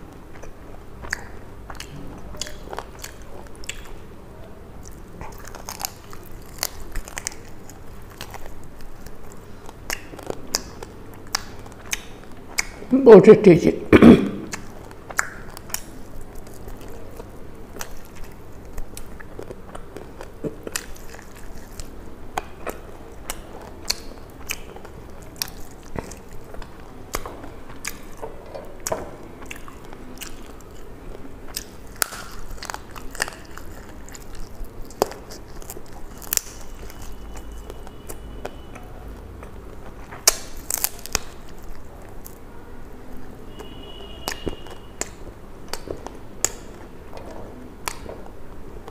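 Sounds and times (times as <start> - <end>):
wet chewing: 0.0 - 12.9, 14.4 - 48.9.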